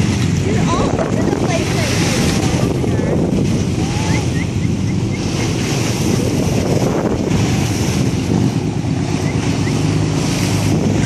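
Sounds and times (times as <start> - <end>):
boat engine hum: 0.0 - 11.0
water rushing along hull: 0.0 - 11.0
wind buffeting microphone: 0.0 - 11.0.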